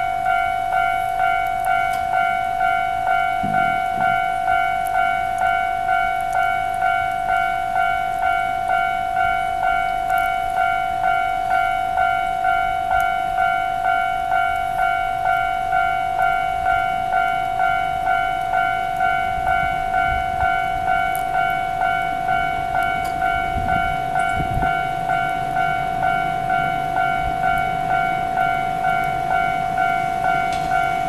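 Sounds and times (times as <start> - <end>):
level crossing electronic bell: 0.0 - 31.0
steady ringing tone: 0.0 - 31.0.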